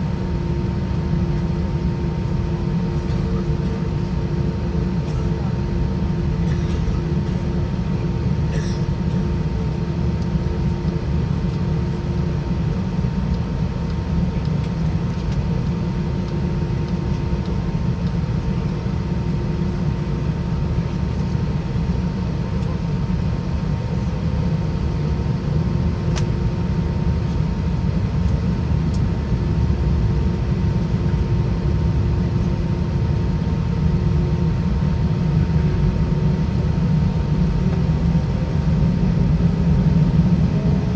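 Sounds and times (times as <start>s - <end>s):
airplane cabin engine roar: 0.0s - 40.9s
faint steady hums: 0.0s - 40.9s.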